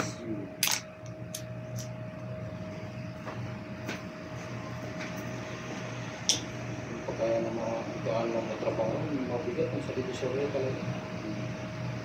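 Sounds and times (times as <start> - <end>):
cooling equipment electric hum: 0.0 - 12.0.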